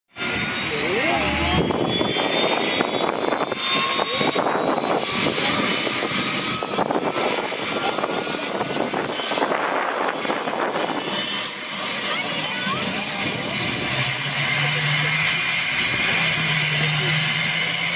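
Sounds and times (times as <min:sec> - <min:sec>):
helicopter rotor rushing: 0:00.1 - 0:17.9
helicopter turbine whine rising: 0:00.1 - 0:17.9.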